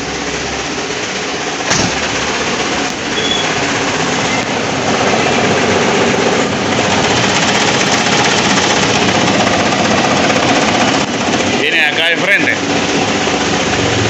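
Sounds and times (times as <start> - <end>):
car engine running: 0.0 - 14.0
loud mechanical noise: 0.0 - 14.0.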